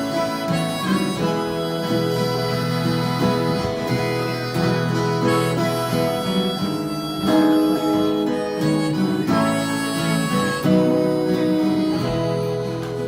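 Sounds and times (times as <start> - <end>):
acoustic guitar accompaniment: 0.0 - 13.0
harmonica melody: 0.0 - 13.0.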